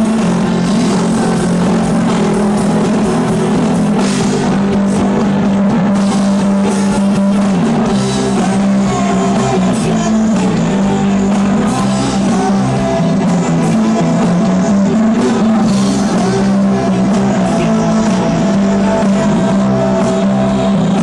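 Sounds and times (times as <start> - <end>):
bass guitar line: 0.0 - 21.0
drum kit: 0.0 - 21.0
electric guitars: 0.0 - 21.0.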